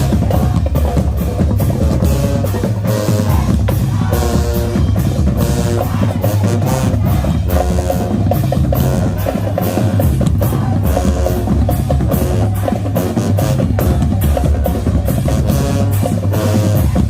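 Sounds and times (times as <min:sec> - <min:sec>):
bass drum beat: 0:00.0 - 0:17.0
horn figures: 0:00.0 - 0:17.0
marching band playing: 0:00.0 - 0:17.0.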